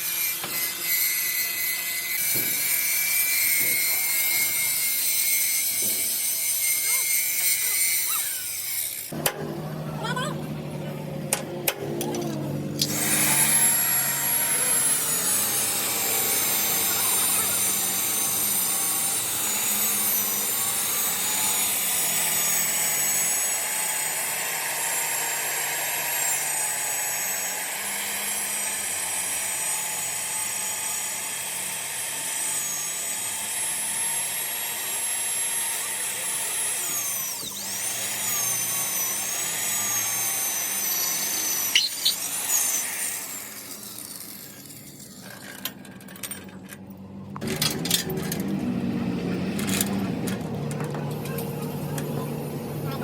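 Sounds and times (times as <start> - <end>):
power tool whining on metal: 0.0 - 53.0.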